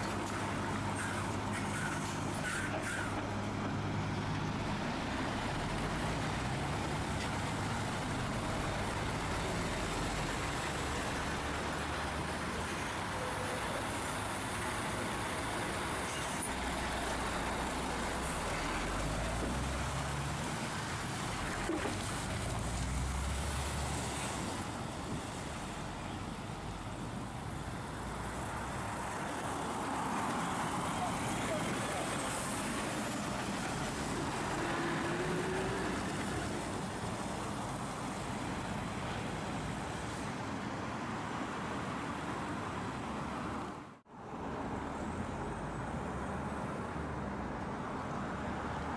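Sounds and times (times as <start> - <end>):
lorry diesel engine rumbling: 0.0 - 39.7.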